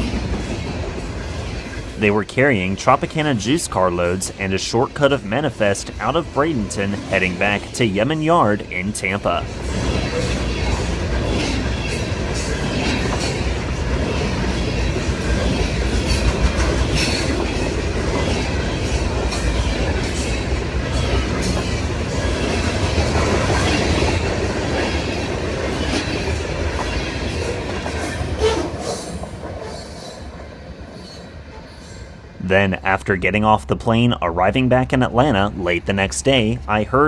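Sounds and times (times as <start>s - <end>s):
freight train wheels rumbling on rail: 0.0s - 32.9s, 33.7s - 37.0s.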